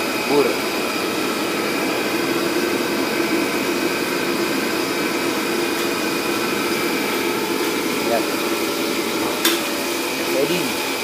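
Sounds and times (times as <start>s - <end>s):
kitchen equipment roar: 0.0s - 11.0s.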